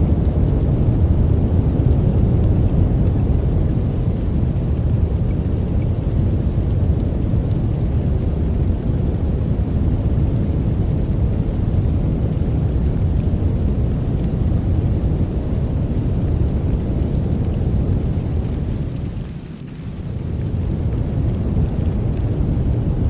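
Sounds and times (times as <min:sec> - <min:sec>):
deep steady noise hiss: 0:00.0 - 0:23.0.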